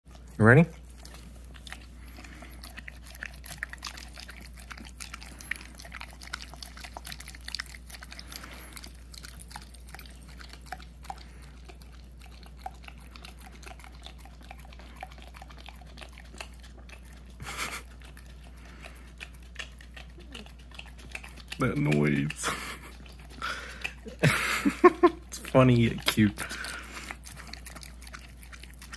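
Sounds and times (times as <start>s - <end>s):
dog licking and smacking: 0.1s - 28.9s.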